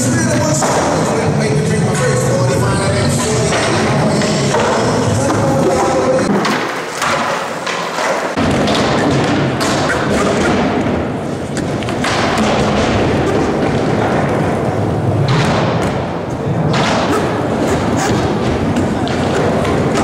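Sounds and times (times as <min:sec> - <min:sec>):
skateboard rolling on hard floor: 0:03.3 - 0:20.0.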